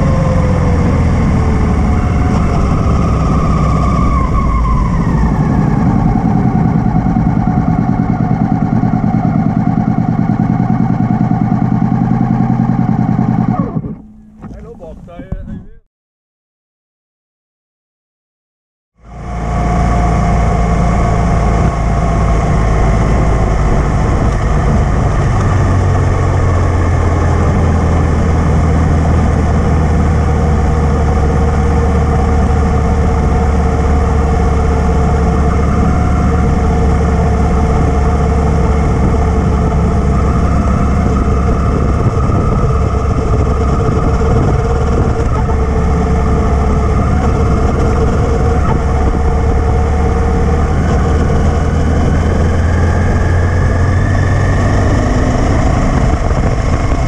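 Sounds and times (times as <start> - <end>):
motorcycle engine cruising: 0.0 - 15.8, 19.0 - 57.0.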